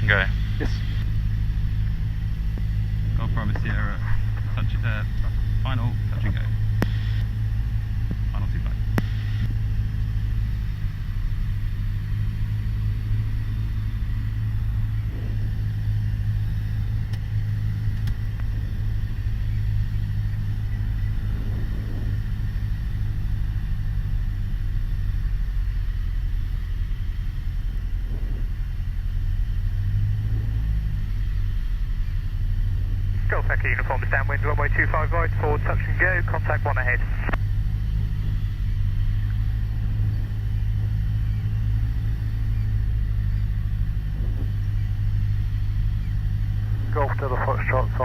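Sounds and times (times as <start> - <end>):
airplane engine and propeller droning: 0.0 - 48.0.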